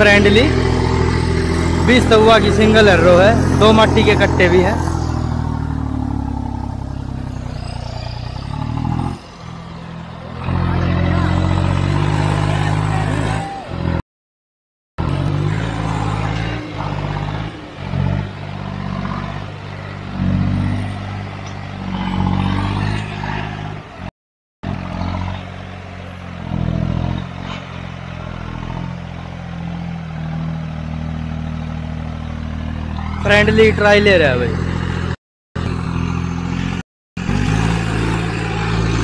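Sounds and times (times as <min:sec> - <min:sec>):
tractor diesel engine labouring: 0:00.0 - 0:14.0, 0:15.0 - 0:39.0.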